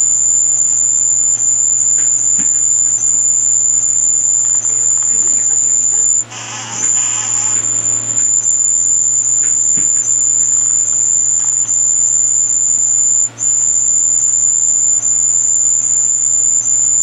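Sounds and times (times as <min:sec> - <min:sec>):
high-pitched electronic tone: 0:00.0 - 0:17.0
low steady hum: 0:00.0 - 0:17.0.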